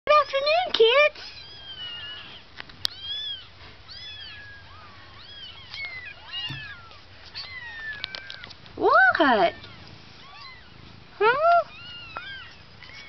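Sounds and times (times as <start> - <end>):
kittens mewing: 1.2 - 13.0.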